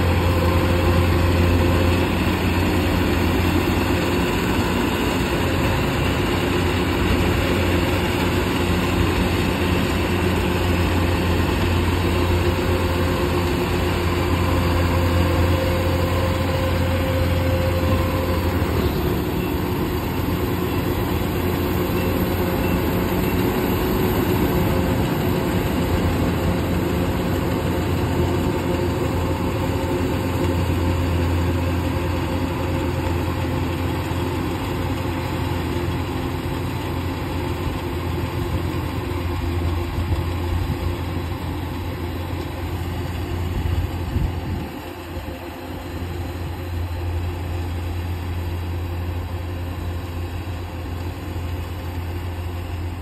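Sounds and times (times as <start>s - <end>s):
combine harvester diesel engine: 0.0s - 53.0s.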